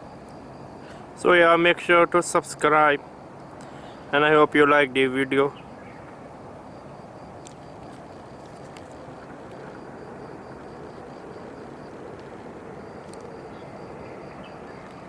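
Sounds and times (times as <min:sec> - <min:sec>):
faint high pulsing tone: 0:00.0 - 0:15.0
rumbling hiss: 0:00.0 - 0:15.0.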